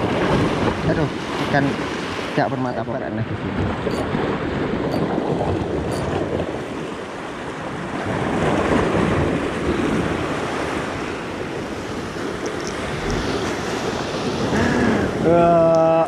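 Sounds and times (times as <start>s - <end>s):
waves breaking against rocks: 0.0s - 16.0s.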